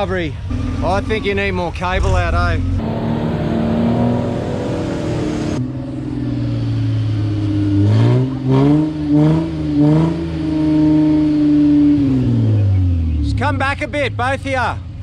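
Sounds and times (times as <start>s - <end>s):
engine running and revving: 0.0s - 13.8s.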